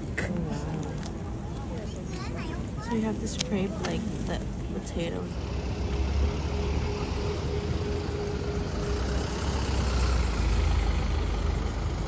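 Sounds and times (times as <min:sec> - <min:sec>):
street traffic: 0:00.0 - 0:12.0
truck engine rumbling: 0:00.0 - 0:12.0.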